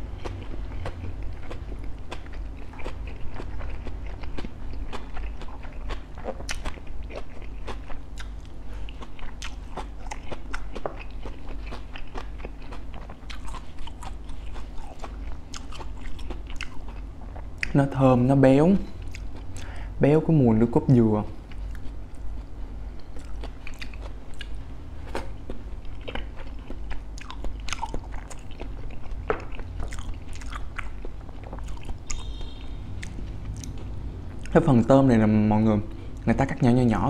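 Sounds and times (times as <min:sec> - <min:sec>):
chewing: 0:00.0 - 0:17.8, 0:18.8 - 0:19.8, 0:21.4 - 0:34.6
food crunching: 0:00.0 - 0:19.8, 0:21.4 - 0:34.9
low hum: 0:00.0 - 0:37.0.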